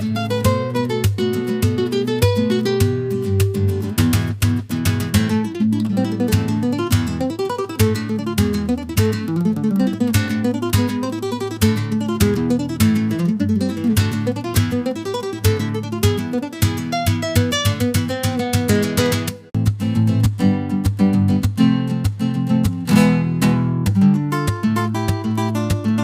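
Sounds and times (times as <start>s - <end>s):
acoustic guitar: 0.0s - 26.0s.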